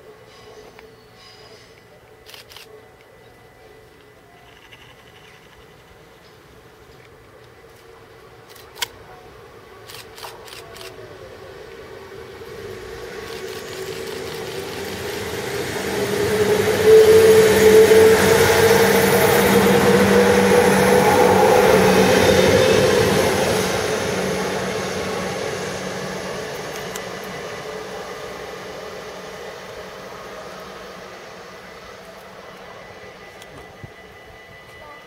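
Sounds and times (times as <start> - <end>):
diesel train engine drone: 0.0 - 35.0
steady whine of passing train: 0.0 - 35.0.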